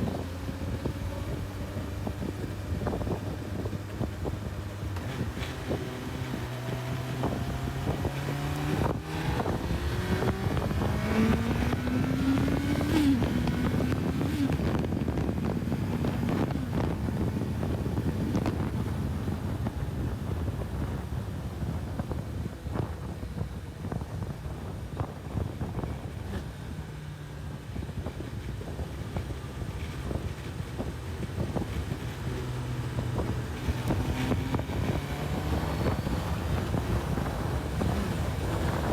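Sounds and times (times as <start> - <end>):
motorcycle engine accelerating: 0.0 - 38.9
wind buffeting microphone: 0.0 - 38.9.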